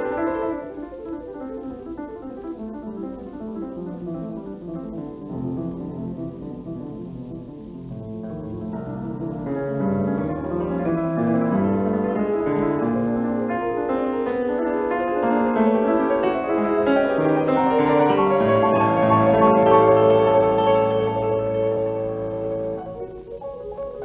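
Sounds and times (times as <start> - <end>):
solo piano fast runs: 0.0 - 24.0.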